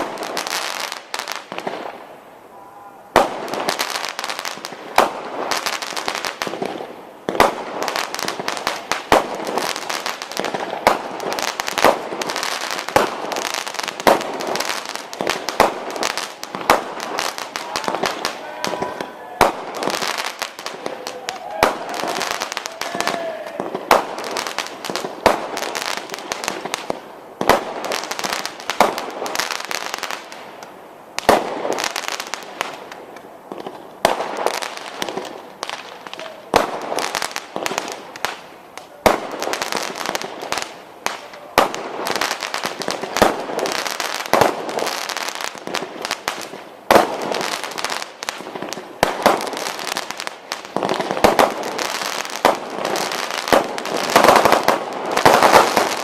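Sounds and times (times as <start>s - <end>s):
fireworks bangs: 0.0s - 56.0s
fireworks crackling and popping: 0.0s - 56.0s.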